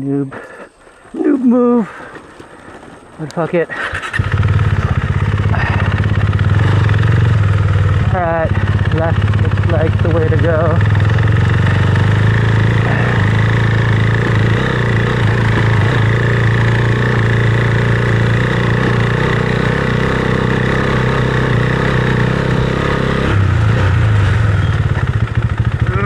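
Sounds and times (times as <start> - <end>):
motorcycle engine running: 2.7 - 26.0.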